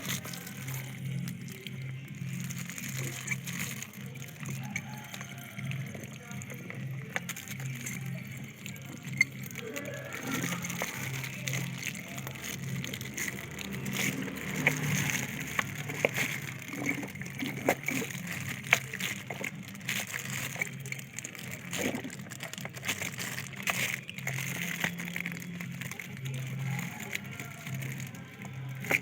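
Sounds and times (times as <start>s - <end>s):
liquid sloshing and trickling: 0.0s - 29.0s.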